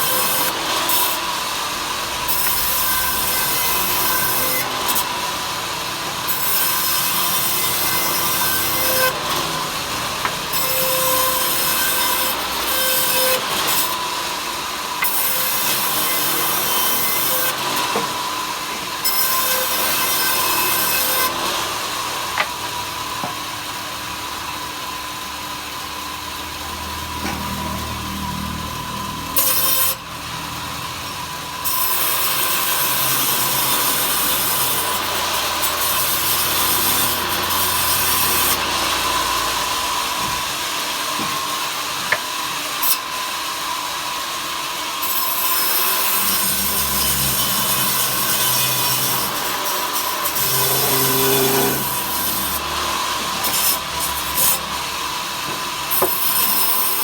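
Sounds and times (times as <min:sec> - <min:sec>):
power saw cutting wood: 0:00.0 - 0:57.0.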